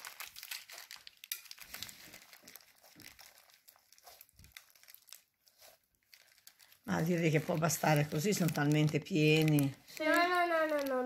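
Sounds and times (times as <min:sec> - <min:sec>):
slime crackling and squishing: 0:00.0 - 0:11.0.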